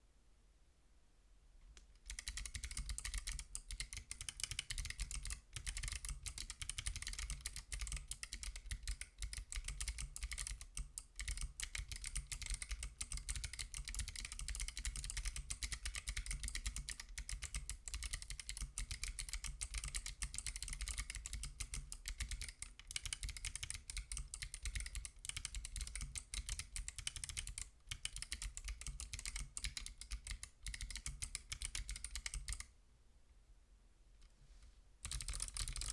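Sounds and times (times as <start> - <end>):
fast typing on clicky keyboard: 2.1 - 32.7, 35.0 - 35.9.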